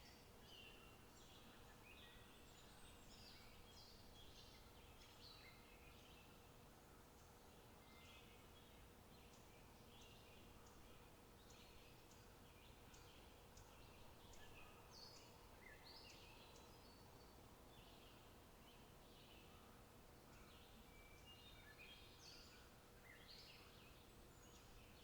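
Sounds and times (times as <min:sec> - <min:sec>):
low steady background noise: 0:00.0 - 0:25.0.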